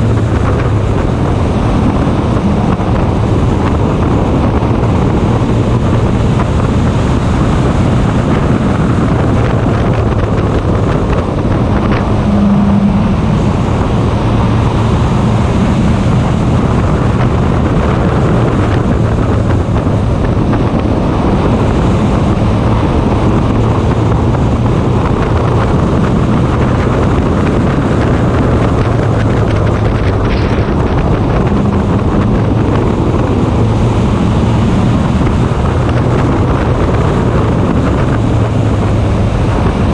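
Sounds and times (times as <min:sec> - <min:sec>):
race car engine running: 0:00.0 - 0:39.9
wind buffeting microphone: 0:00.0 - 0:39.9.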